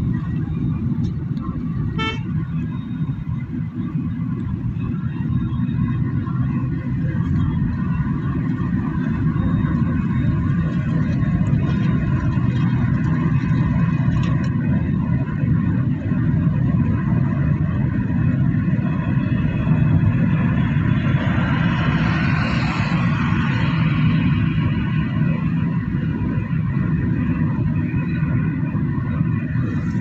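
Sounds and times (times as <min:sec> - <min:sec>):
car road noise drone: 0:00.0 - 0:30.0.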